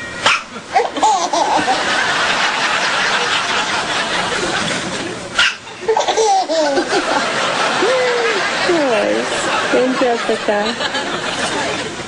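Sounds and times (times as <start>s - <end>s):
audience laughing: 0.6s - 12.0s
voices chuckling: 0.6s - 12.0s.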